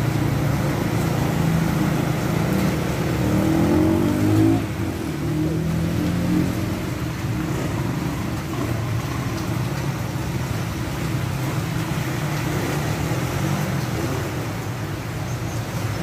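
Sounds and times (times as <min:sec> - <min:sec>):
water washing around tyres: 0:00.0 - 0:16.0.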